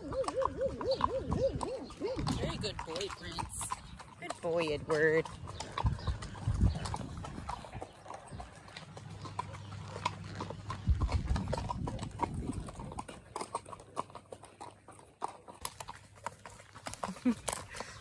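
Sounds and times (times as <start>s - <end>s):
horse hooves clip-clopping on dirt: 0.0s - 18.0s.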